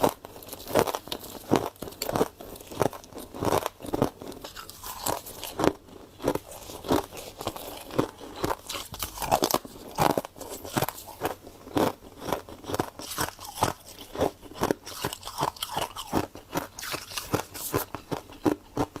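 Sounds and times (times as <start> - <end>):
crunching and chewing frost: 0.0 - 19.0.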